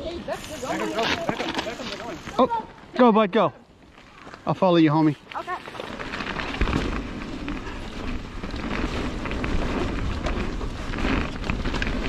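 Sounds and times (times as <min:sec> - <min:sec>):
bike rattling over bumps: 0:00.0 - 0:02.5, 0:03.8 - 0:12.0
bike tyre rumble: 0:00.0 - 0:02.9, 0:03.8 - 0:12.0.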